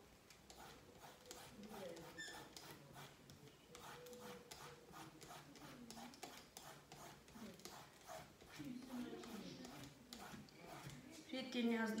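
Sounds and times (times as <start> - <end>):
vegetable peeler scraping: 0.5 - 11.2.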